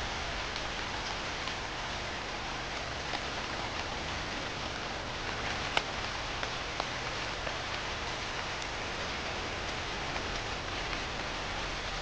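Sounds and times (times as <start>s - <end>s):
raindrops ticking: 0.0s - 12.0s
steady rain falling: 0.0s - 12.0s.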